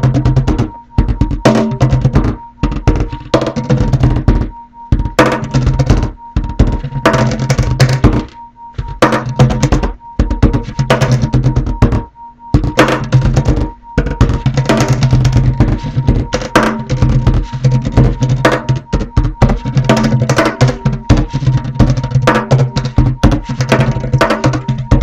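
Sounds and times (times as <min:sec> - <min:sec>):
drum and percussion beat: 0:00.0 - 0:25.0.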